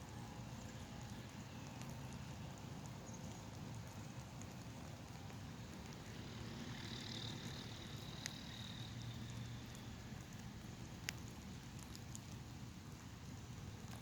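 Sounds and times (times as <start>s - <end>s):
light rain hiss: 0.0s - 14.0s
sharp drip clicks: 0.0s - 14.0s.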